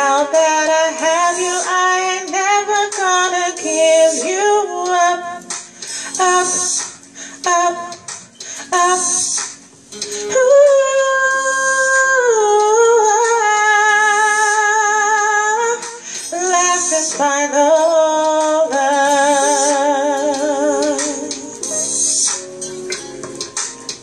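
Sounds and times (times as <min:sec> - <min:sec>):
woman singing with vibrato: 0:00.0 - 0:09.4, 0:10.1 - 0:22.1.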